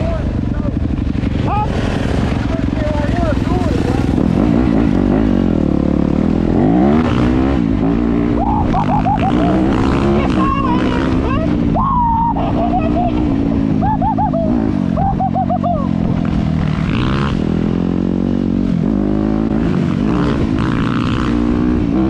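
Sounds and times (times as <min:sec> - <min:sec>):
dirt bike engines running: 0:00.0 - 0:22.0.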